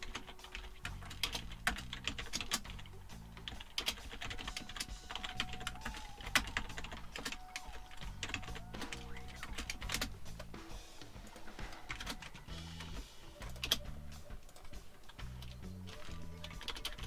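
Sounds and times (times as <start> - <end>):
computer keyboard typing: 0.0 - 17.0.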